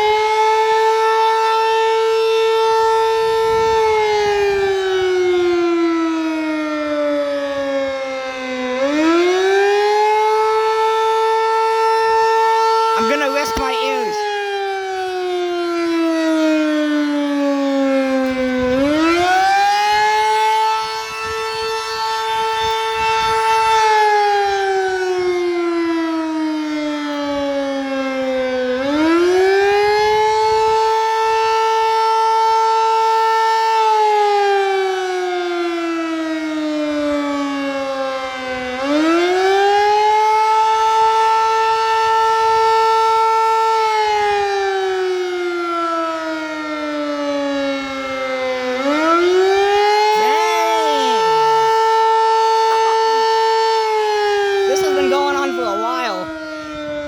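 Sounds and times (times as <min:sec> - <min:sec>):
outdoor warning siren wailing: 0:00.0 - 0:57.0.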